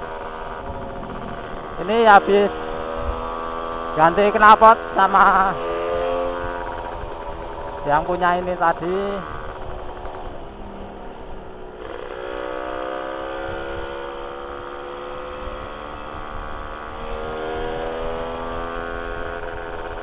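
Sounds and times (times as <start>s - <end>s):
low wind rumble: 0.0s - 20.0s
two-stroke engine running hard: 0.0s - 20.0s.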